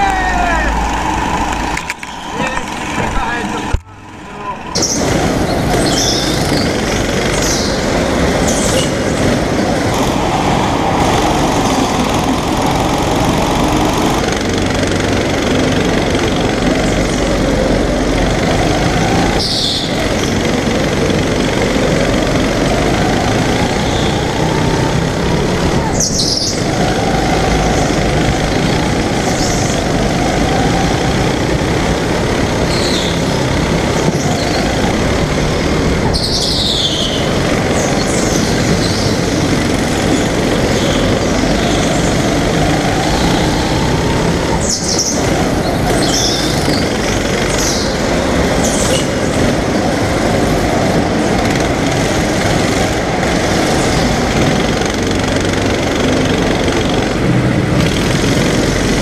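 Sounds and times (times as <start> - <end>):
go-kart engine: 0.0 - 59.0.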